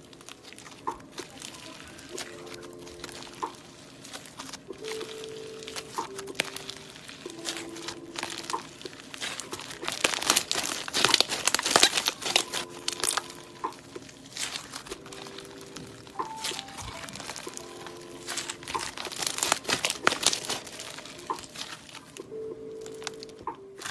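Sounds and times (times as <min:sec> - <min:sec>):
slime crackling and popping: 0:00.0 - 0:23.9.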